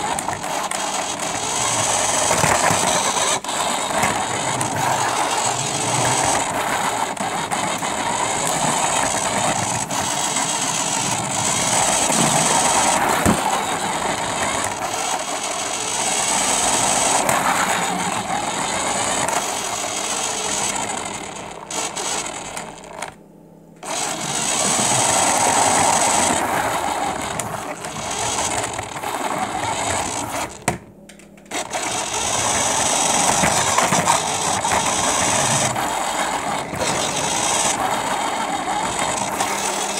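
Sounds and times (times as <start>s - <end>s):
toy car motor whirring: 0.0s - 23.2s, 23.8s - 30.8s, 31.4s - 39.9s.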